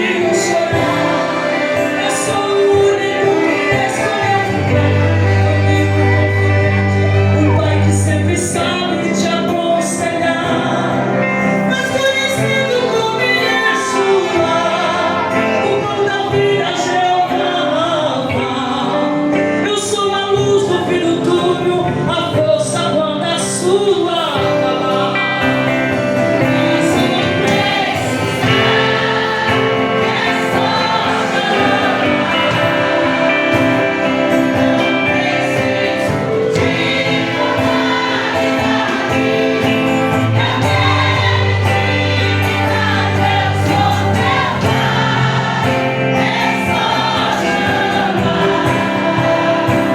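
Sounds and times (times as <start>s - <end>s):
gospel song with singing: 0.0s - 49.9s.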